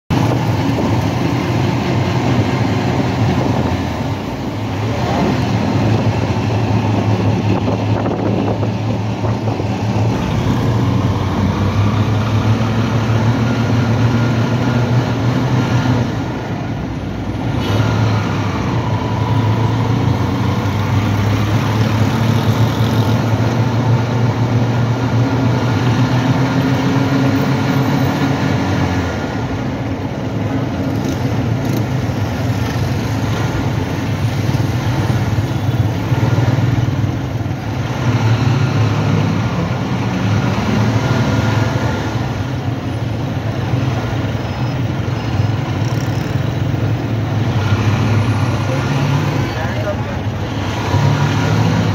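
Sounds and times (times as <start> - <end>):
road noise: 0.1 - 51.9.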